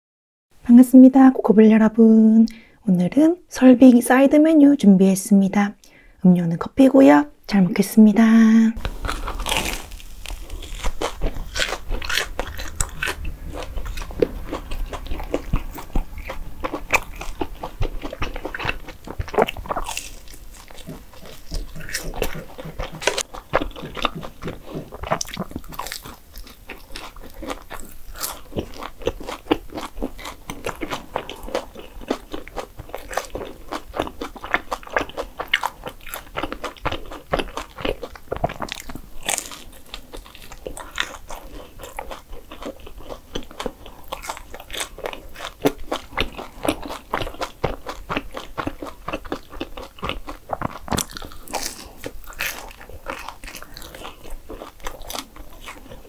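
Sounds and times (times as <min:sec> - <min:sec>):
person chewing: 0:08.8 - 0:56.0.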